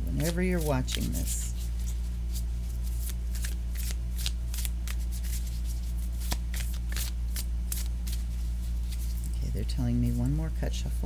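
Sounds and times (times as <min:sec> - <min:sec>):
cards being shuffled: 0:00.0 - 0:09.4
steady low hum: 0:00.0 - 0:11.0.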